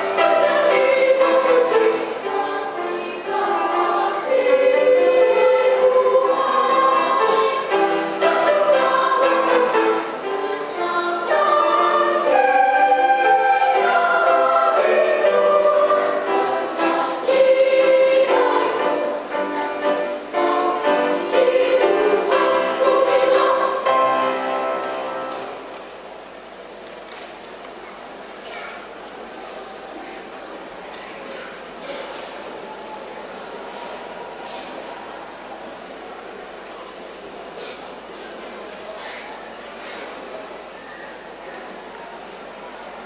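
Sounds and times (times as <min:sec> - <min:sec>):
children's choir singing: 0:00.0 - 0:26.1, 0:27.9 - 0:43.0.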